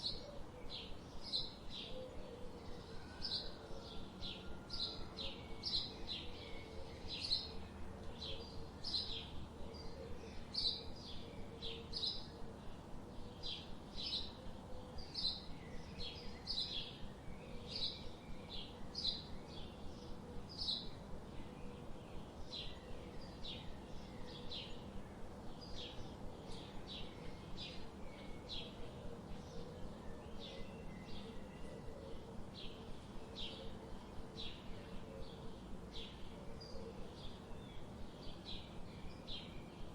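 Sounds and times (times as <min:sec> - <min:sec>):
faint background hum: 0:00.0 - 0:39.9
forest birds chirping: 0:00.0 - 0:39.9.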